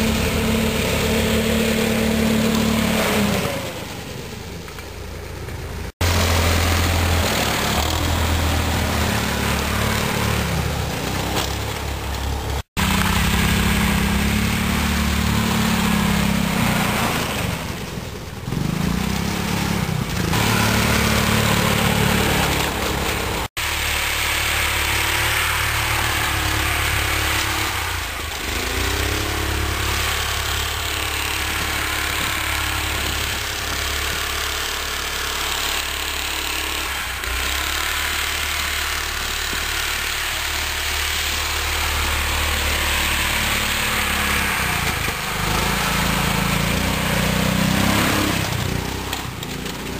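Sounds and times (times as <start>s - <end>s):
snowmobile engine running: 0.0s - 4.4s, 5.3s - 49.9s.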